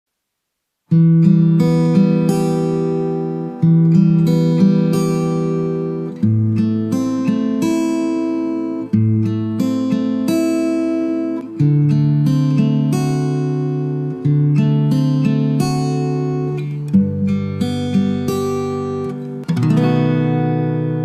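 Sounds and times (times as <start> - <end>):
acoustic guitar chords: 0.8 - 21.0.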